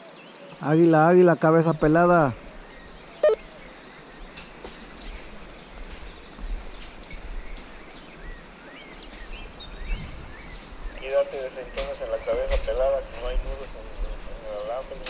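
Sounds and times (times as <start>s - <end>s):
small birds chirping: 0.0s - 15.0s
steady outdoor hiss: 0.0s - 15.0s.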